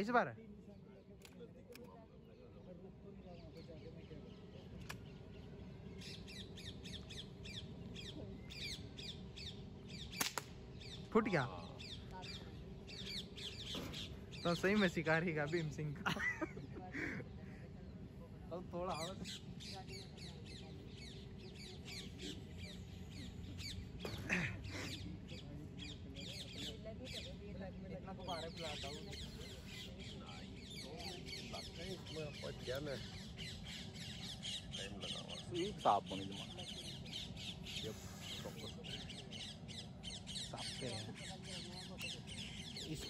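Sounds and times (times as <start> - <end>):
birds calling in falling notes: 1.0 - 43.0.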